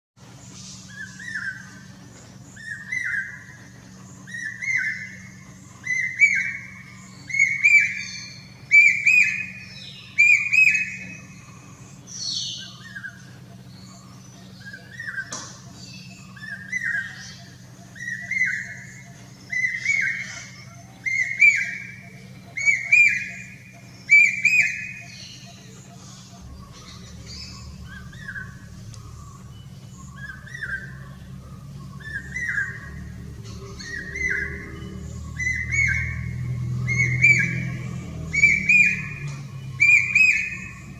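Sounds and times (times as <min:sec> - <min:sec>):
cuckoo calling: 0:00.8 - 0:40.9.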